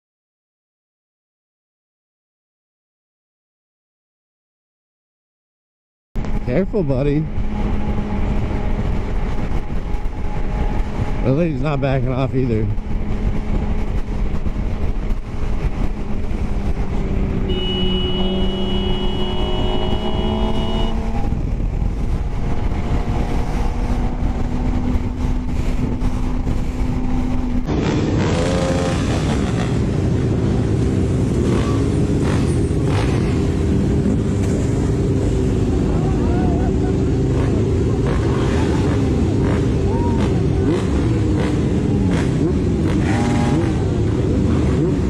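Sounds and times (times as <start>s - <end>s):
wind and road noise: 6.2s - 45.0s
motorcycle engine revving: 6.3s - 45.0s.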